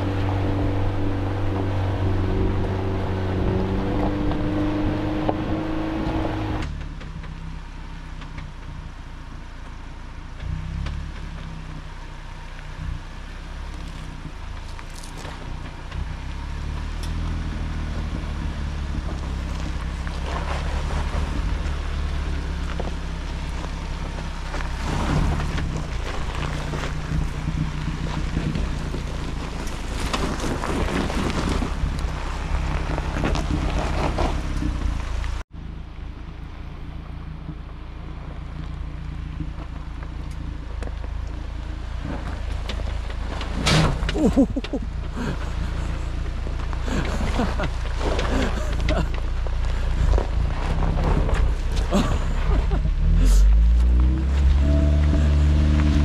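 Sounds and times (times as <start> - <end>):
engine running low: 0.0 - 56.0
tyres on dirt and gravel: 0.0 - 56.0.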